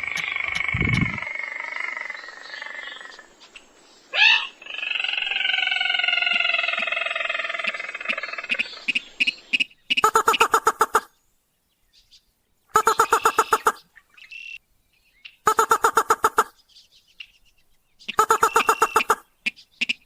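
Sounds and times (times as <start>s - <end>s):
harsh falling bird calls: 0.0s - 11.2s, 11.9s - 20.0s.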